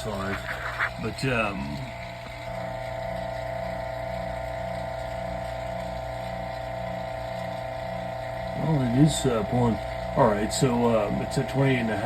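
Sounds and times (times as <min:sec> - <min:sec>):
vacuum pump motor hum: 0:00.0 - 0:12.0.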